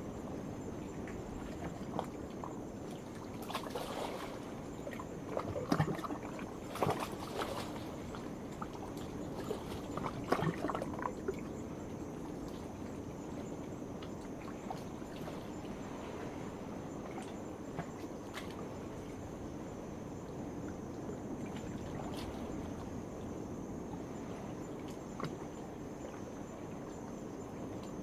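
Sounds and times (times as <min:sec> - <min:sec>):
night insects droning: 0:00.0 - 0:28.0.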